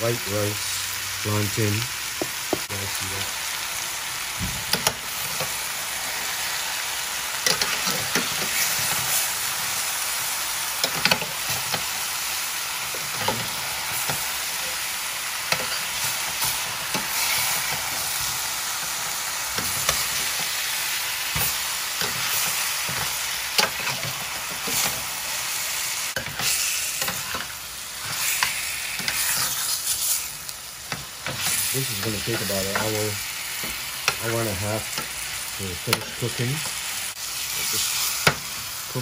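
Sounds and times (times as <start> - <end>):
chicken sizzling in oil: 0.0 - 39.0.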